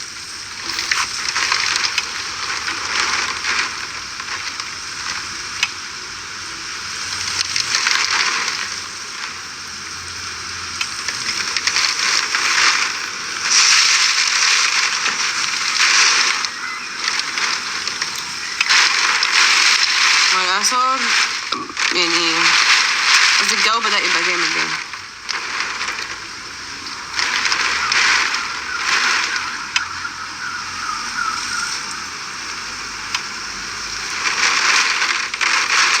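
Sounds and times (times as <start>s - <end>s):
heavy rain hissing: 0.0s - 36.0s
wind gusts: 0.0s - 36.0s.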